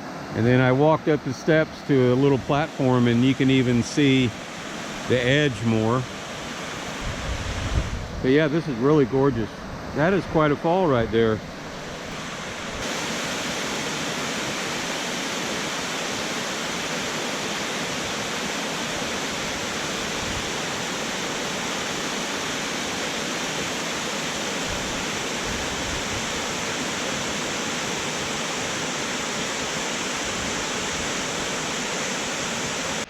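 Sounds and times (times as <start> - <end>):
waterfall rushing: 1.2 - 8.0, 11.4 - 33.0.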